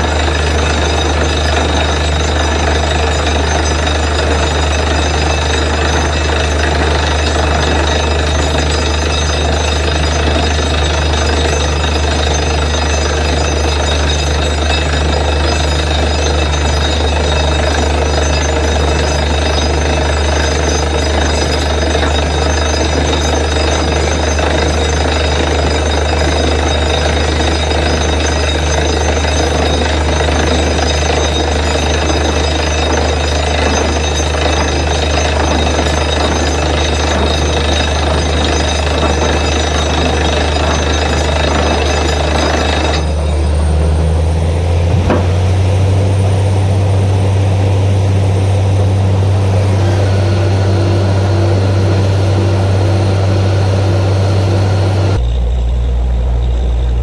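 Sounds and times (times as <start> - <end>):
drilling rig mechanical drone: 0.0 - 57.0.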